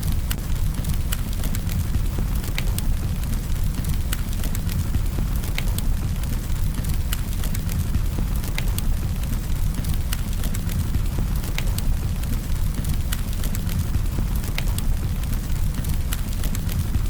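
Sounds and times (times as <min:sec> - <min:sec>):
campfire flames rumbling: 0:00.0 - 0:17.0
wood popping and crackling: 0:00.0 - 0:17.0.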